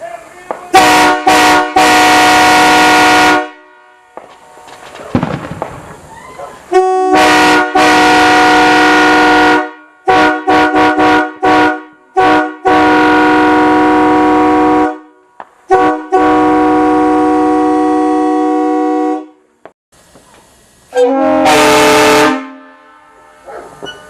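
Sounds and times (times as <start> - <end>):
locomotive air horn blasts: 0.0 - 4.2, 6.7 - 19.6, 20.9 - 23.5.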